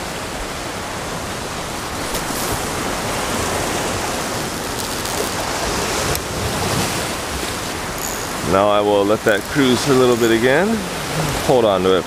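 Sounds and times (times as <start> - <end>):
wind on microphone: 0.0 - 11.6
surf breaking over rocks: 0.0 - 12.0.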